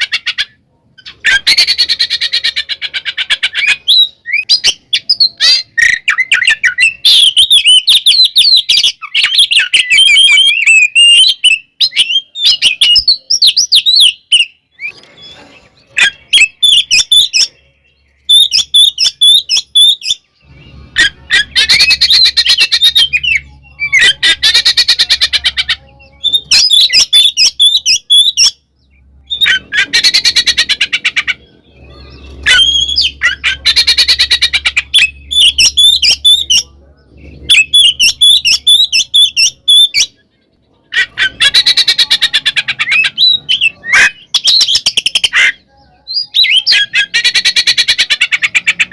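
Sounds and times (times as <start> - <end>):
bird whistled phrases: 1.0 - 17.7, 18.3 - 28.6, 29.3 - 36.7, 40.9 - 48.9.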